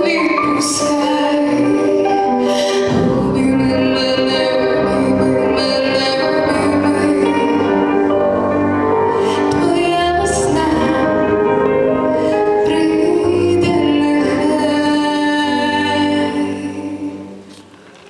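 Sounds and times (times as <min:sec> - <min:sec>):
backing music: 0:00.0 - 0:18.0.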